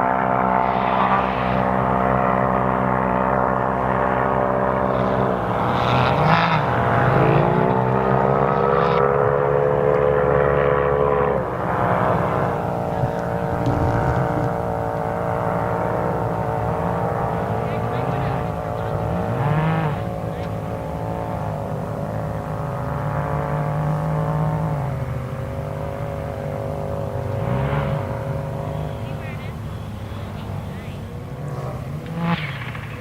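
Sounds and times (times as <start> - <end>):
off-road vehicle engines revving: 0.0 - 33.0.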